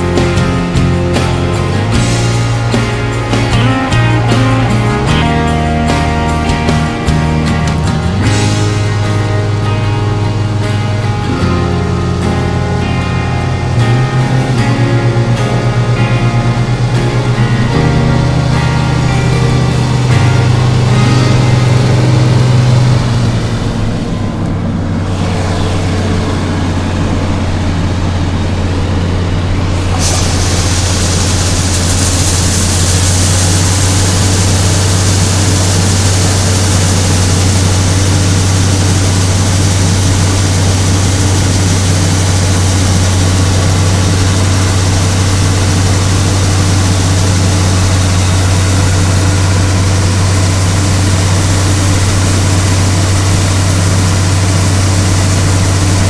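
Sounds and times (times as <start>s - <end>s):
combine harvester diesel engine humming: 0.0s - 56.0s
loud rushing noise: 0.0s - 56.0s.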